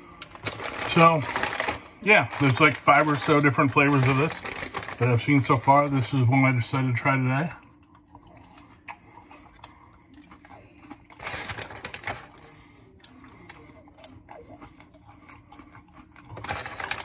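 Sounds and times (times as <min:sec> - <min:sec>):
chewing crunchy popcorn: 0:00.1 - 0:17.0.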